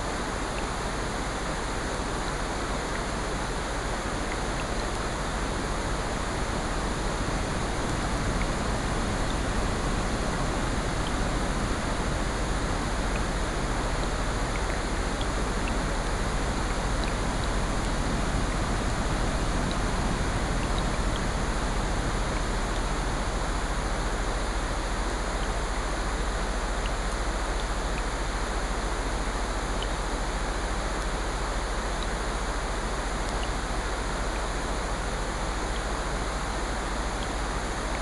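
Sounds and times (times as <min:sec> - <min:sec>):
rain: 0:00.0 - 0:38.0.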